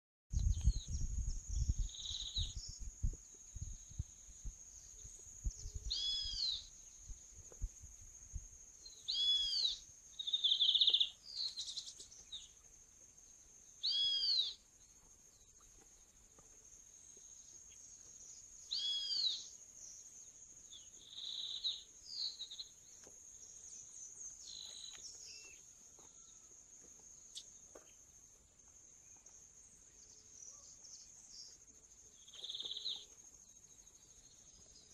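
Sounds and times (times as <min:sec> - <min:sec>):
songbirds calling: 0:00.4 - 0:07.6, 0:08.7 - 0:34.9.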